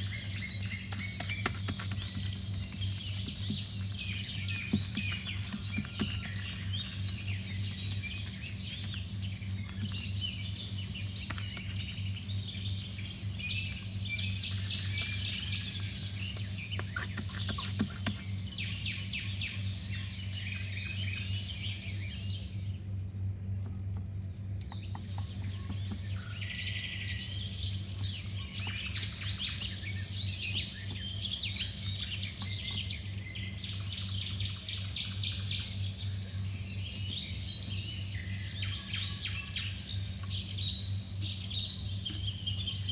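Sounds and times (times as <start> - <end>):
small birds chirping: 0.0 - 42.9
steady low hum: 0.0 - 42.9.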